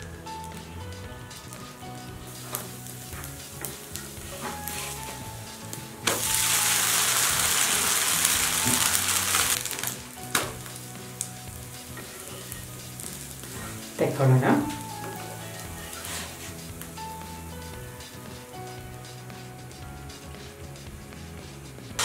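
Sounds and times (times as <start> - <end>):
batter sizzling in oil: 1.3 - 22.0.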